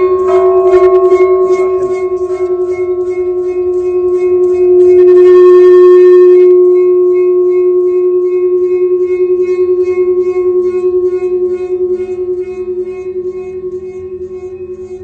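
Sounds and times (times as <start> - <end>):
sustained ringing tone: 0.0 - 15.0.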